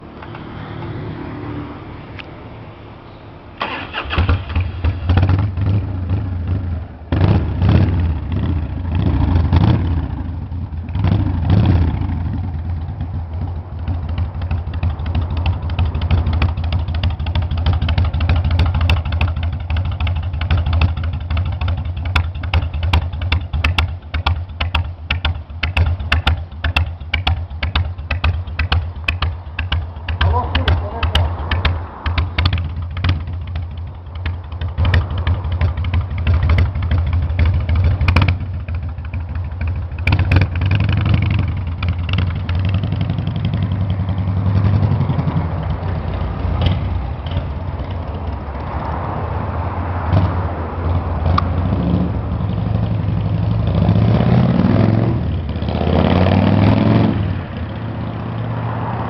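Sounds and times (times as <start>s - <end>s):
motorcycle engine revving and idling: 3.6s - 59.0s.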